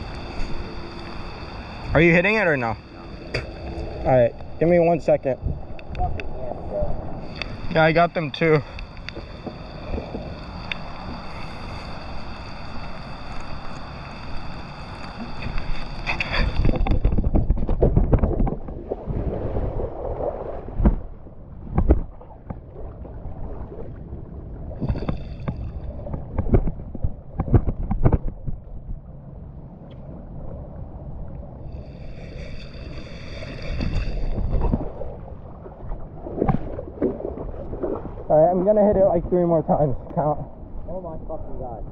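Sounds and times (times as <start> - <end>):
water rushing and splashing: 0.0 - 28.0, 30.2 - 41.9
wind on microphone: 0.0 - 41.9.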